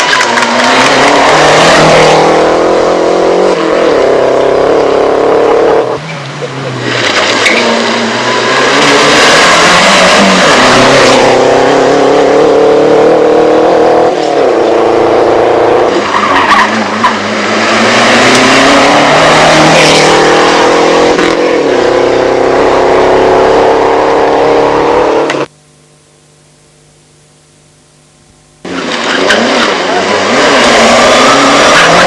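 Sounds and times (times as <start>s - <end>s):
rally car engines revving high: 0.0s - 25.5s, 28.6s - 32.0s.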